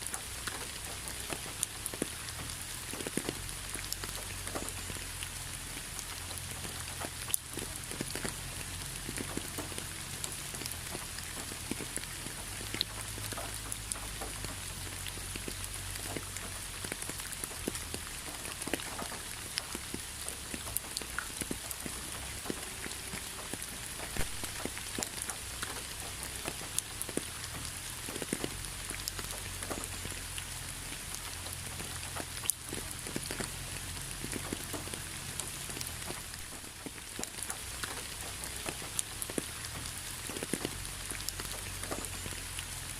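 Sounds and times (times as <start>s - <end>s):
raindrops ticking on a surface: 0.0s - 42.9s
steady rain: 0.0s - 42.9s.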